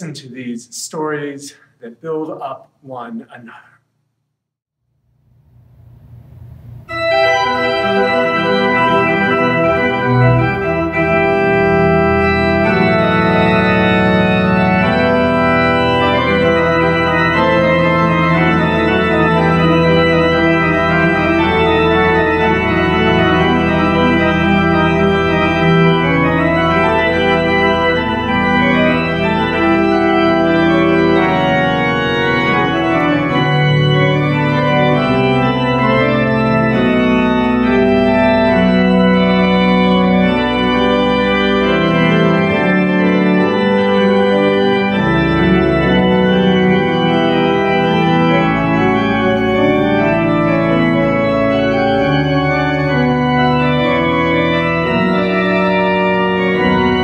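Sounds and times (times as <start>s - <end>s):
pipe organ chords: 5.7s - 57.0s.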